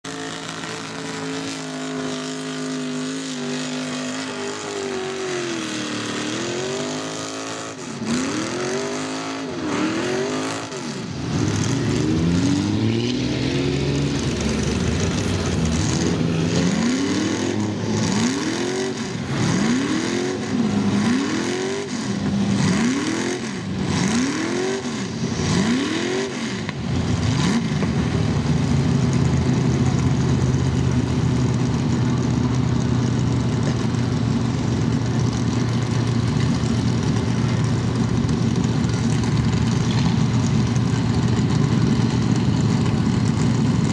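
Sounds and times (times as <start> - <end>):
truck engine revving: 0.0 - 43.9
tyres churning in mud: 0.0 - 43.9.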